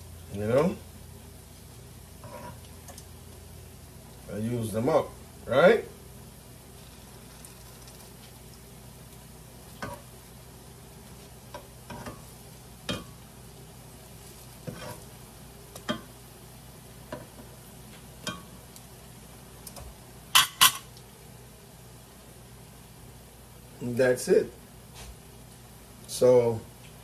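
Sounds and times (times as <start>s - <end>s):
fritters sizzling in hot oil: 0.0s - 23.5s.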